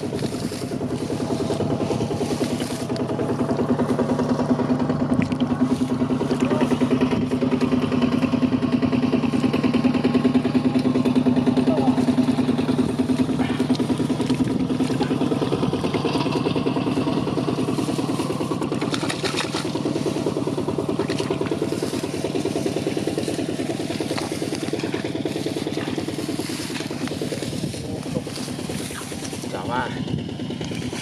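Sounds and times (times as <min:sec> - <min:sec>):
small engine running: 0:00.0 - 0:31.0.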